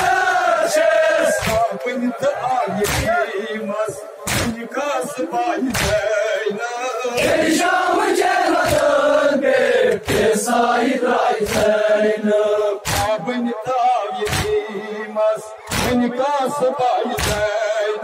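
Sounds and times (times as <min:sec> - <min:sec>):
rhythmic chest-beating slaps: 0:00.0 - 0:03.3, 0:04.2 - 0:06.3, 0:07.2 - 0:14.9, 0:15.6 - 0:18.0
men chanting a lament: 0:00.0 - 0:18.0.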